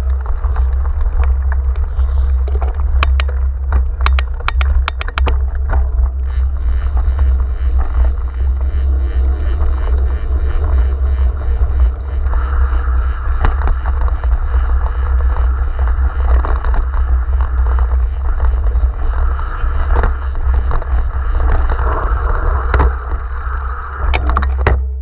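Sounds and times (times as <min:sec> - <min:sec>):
bike rattling over bumps: 0:00.0 - 0:25.0
wind rumble on microphone: 0:00.0 - 0:25.0.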